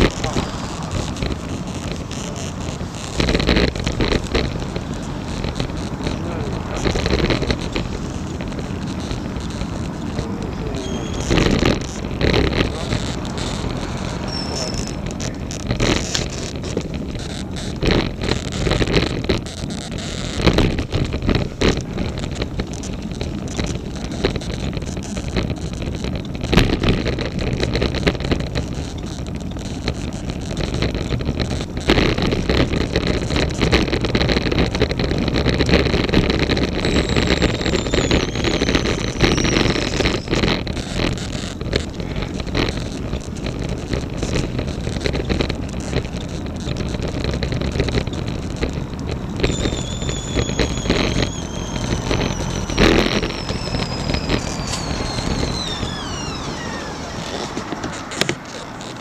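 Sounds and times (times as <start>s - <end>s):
bike clicking: 0.0s - 59.0s
wind and road noise: 0.0s - 59.0s.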